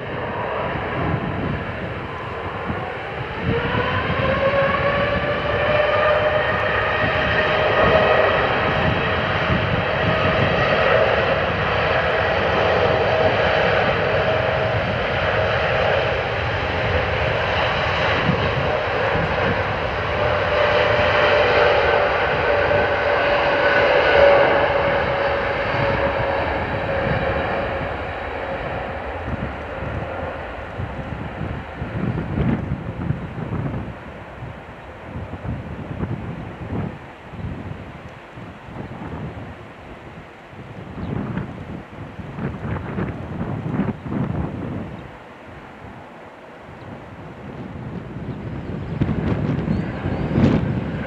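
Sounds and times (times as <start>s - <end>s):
jet engines spooling up: 0.0s - 51.0s.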